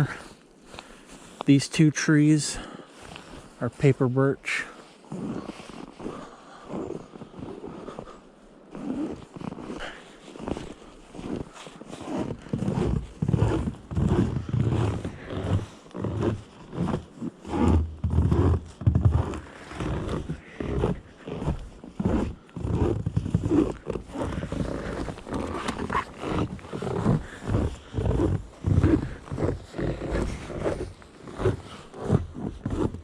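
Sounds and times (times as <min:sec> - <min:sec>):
footsteps crunching in snow: 0:02.3 - 0:33.0.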